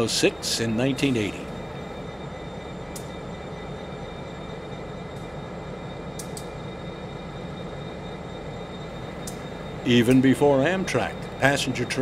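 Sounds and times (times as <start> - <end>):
train rolling on rails: 0.0 - 12.0.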